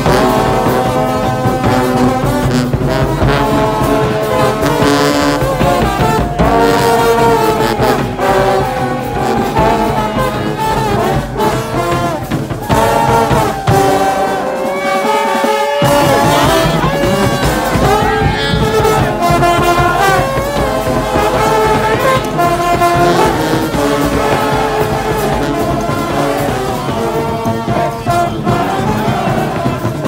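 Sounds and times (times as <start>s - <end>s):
brass band playing: 0.0s - 30.0s
marching bass drum: 0.0s - 30.0s.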